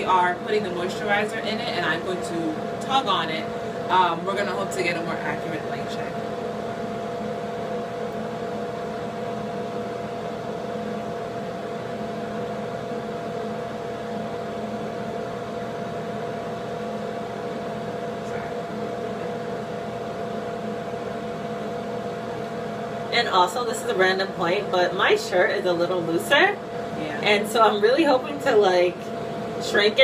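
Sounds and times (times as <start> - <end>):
exhaust fan humming: 0.0 - 30.0.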